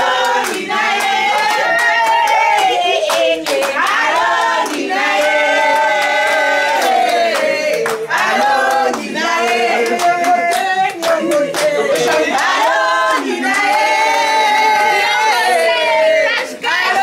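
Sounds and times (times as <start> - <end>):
group singing unaccompanied: 0.0 - 17.0
sharp hand claps: 0.2 - 14.2.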